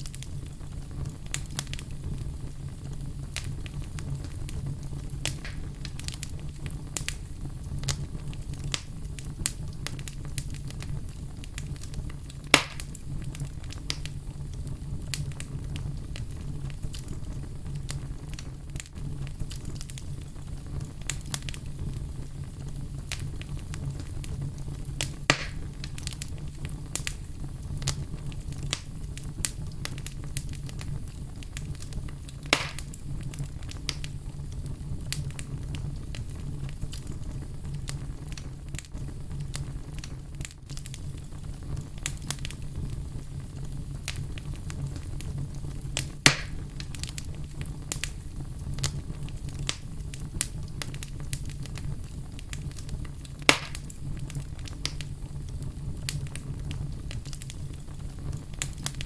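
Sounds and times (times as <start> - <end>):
fire crackling: 0.0 - 59.0
loud fire pops: 0.0 - 59.0.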